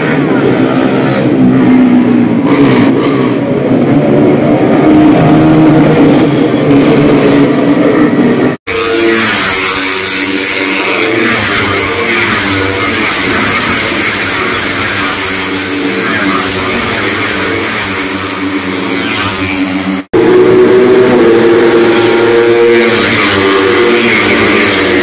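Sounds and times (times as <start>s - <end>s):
racing motorcycles revving: 0.0s - 25.0s.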